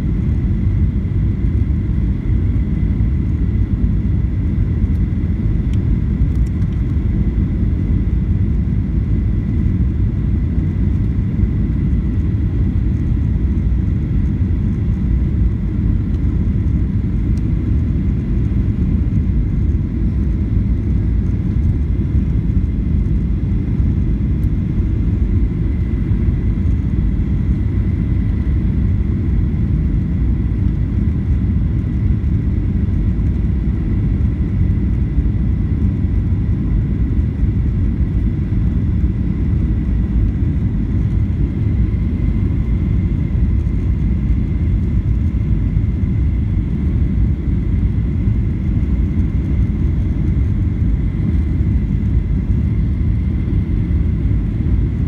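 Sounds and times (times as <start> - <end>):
jet airliner cabin rumble: 0.0 - 55.0.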